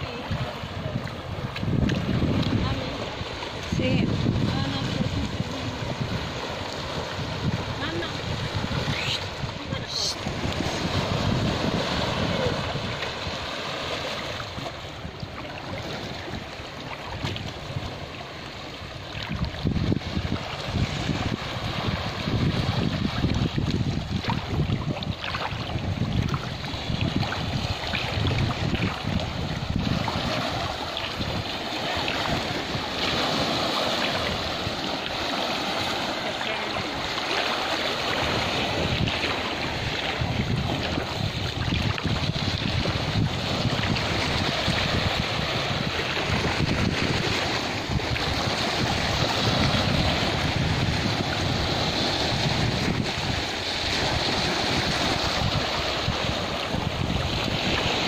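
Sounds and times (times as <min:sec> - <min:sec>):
water lapping over rocks: 0:00.0 - 0:58.0
wind buffeting microphone: 0:00.0 - 0:58.0.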